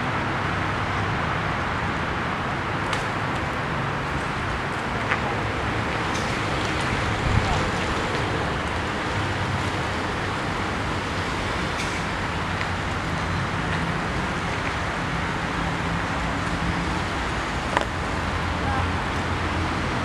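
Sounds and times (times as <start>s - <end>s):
motor traffic roar: 0.0s - 20.0s.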